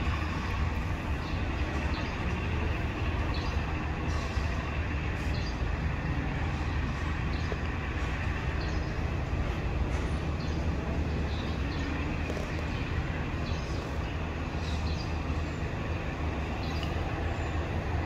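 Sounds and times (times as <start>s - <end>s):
passenger train rumbling: 0.0s - 18.0s
rail noise: 0.0s - 18.0s.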